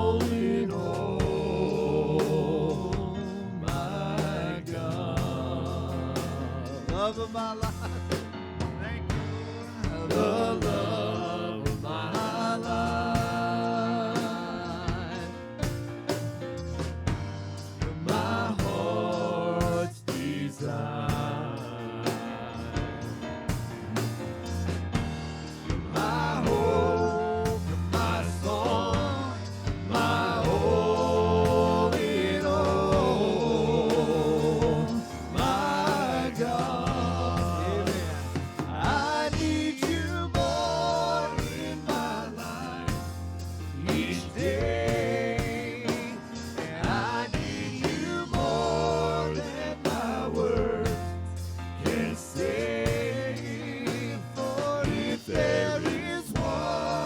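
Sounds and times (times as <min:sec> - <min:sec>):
drums: 0:00.0 - 0:57.0
steady bass: 0:00.0 - 0:57.0
voices singing gospel song: 0:00.0 - 0:57.0.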